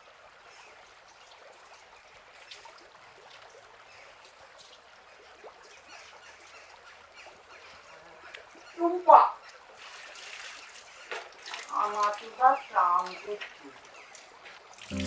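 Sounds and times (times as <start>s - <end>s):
trickling water: 0.0s - 15.0s
water drips: 0.9s - 15.0s.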